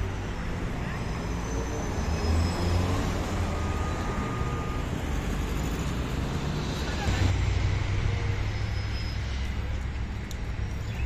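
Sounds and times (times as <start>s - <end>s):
cars driving past: 0.0s - 11.0s
rumble of engines and tyres: 0.0s - 11.0s.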